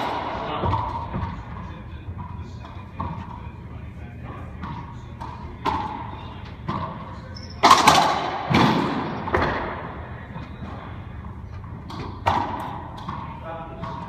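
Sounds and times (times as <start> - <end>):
racquet hitting ball: 0.0 - 3.5, 4.3 - 10.0, 11.6 - 14.0.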